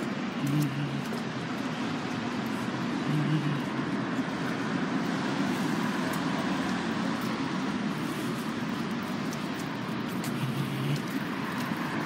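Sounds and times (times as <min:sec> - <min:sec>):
city street traffic noise: 0:00.0 - 0:12.0.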